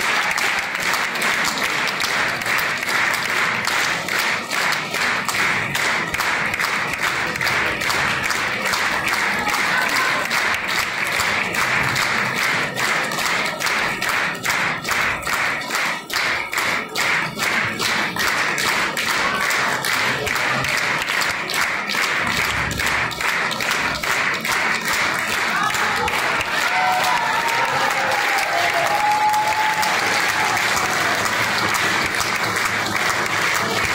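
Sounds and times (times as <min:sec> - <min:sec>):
audience clapping in unison: 0:00.0 - 0:33.9.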